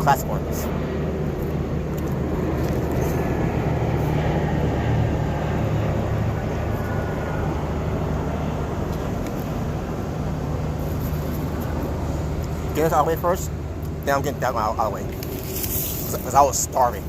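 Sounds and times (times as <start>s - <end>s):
constant low hum: 0.0s - 17.0s
low mechanical rumble: 0.0s - 17.0s.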